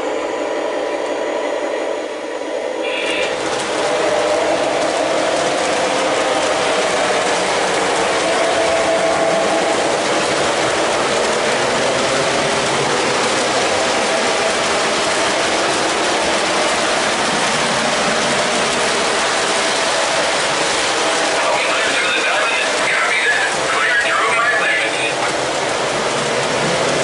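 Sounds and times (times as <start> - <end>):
model train whirring and clattering: 2.8 - 27.0.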